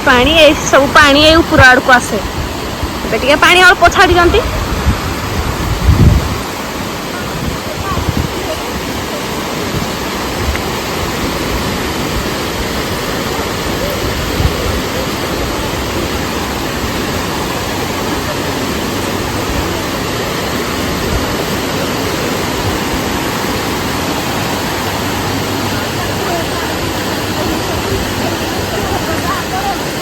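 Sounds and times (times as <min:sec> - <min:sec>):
water rushing over waterfall: 0:00.0 - 0:30.0.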